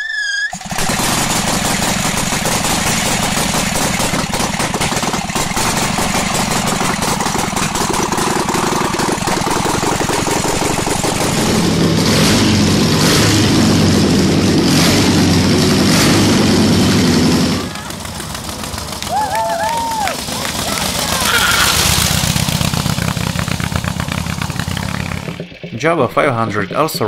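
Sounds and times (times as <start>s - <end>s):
motorcycle engine running: 0.5s - 27.0s.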